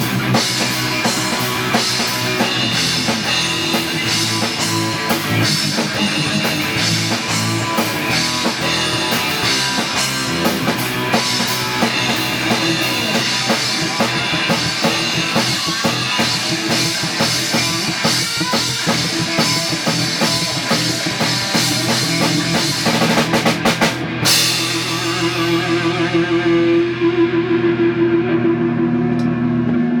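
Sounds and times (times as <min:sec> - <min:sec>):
drum kit and cymbals: 0:00.0 - 0:27.2
electric guitar: 0:00.0 - 0:30.0.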